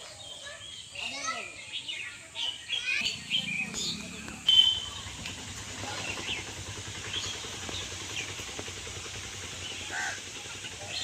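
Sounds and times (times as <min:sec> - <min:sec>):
birds chirping: 0:00.0 - 0:08.6, 0:09.5 - 0:11.0.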